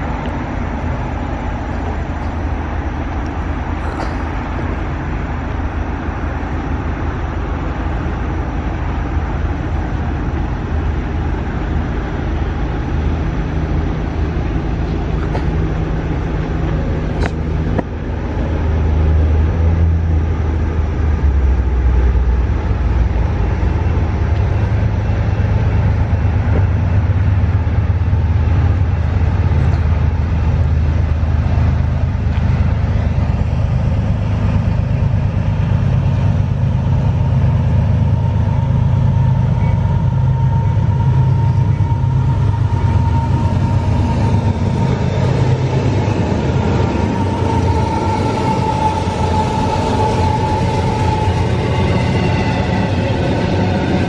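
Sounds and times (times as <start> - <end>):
diesel locomotive engines rumbling: 0.0 - 54.0.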